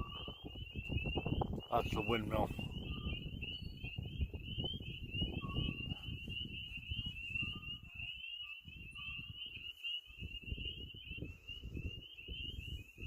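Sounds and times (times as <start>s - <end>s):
frogs calling: 0.0s - 13.0s
wind rumbling on microphone: 0.0s - 13.0s.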